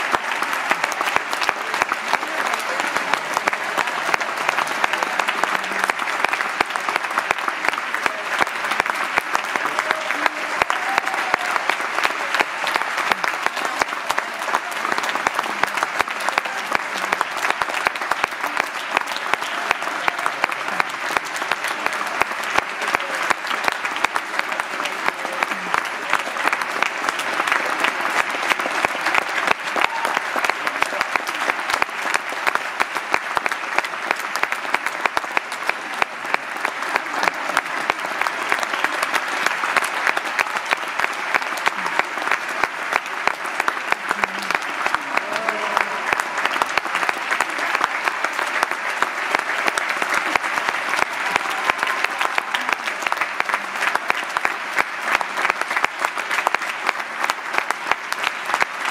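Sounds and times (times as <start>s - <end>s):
audience applauding: 0.0s - 58.9s.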